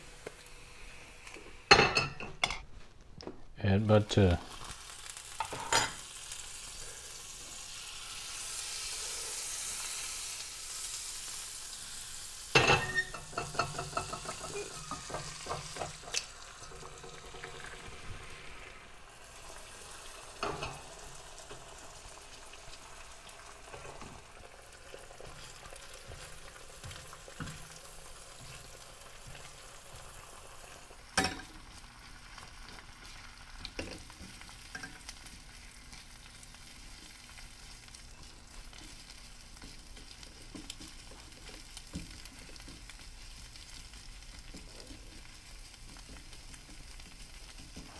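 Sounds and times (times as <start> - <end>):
butter sizzling in a frying pan: 0.0 - 2.4, 3.8 - 47.9
eggs frying and crackling: 0.0 - 3.3, 4.2 - 47.9.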